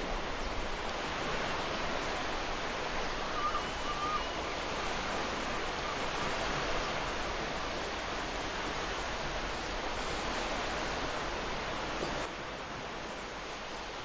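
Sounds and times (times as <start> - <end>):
ocean waves washing onto beach: 0.0 - 14.0.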